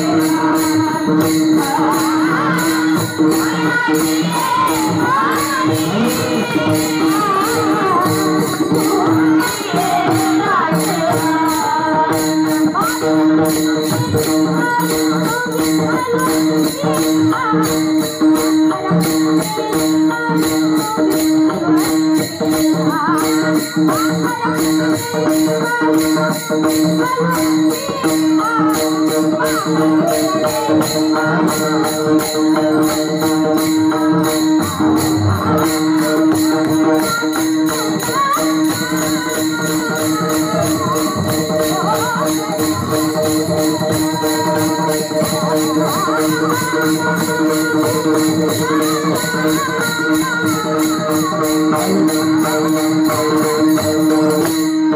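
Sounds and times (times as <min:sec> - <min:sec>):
woman singing: 0:00.0 - 0:54.1
hand cymbals clashing: 0:00.0 - 0:54.9.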